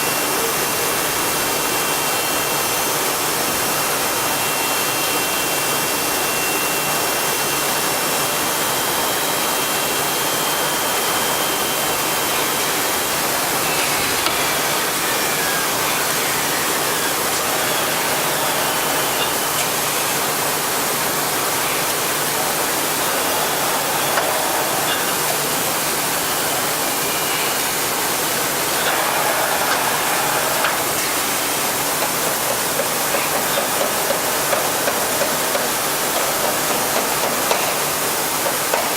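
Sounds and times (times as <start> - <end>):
faint high whining tones: 0.0 - 38.9
router machine rushing noise: 0.0 - 38.9.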